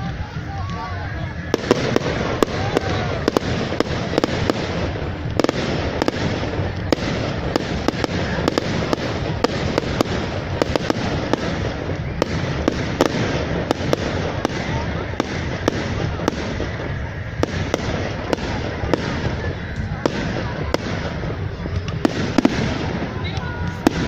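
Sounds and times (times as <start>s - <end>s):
fireworks cracks and bangs: 0.0s - 24.0s
fireworks rumble: 0.0s - 24.0s.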